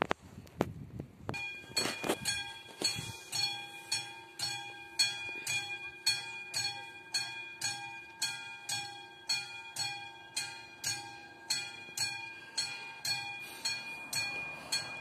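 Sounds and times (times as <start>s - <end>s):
level crossing warning bell: 1.3s - 15.0s.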